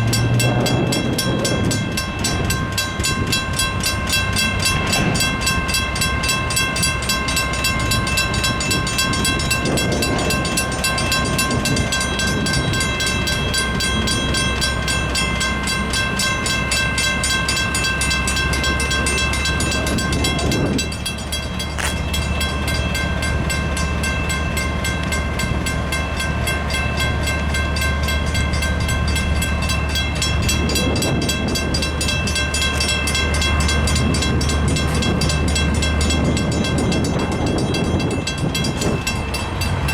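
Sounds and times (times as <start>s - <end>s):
diesel locomotive rumble: 0.0s - 39.9s
railroad crossing bell ringing: 0.0s - 39.9s
rushing train noise: 0.0s - 39.9s.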